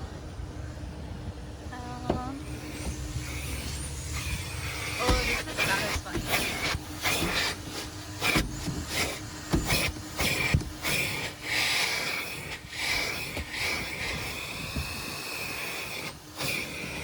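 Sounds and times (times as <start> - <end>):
car wash equipment hissing: 0.0 - 17.0.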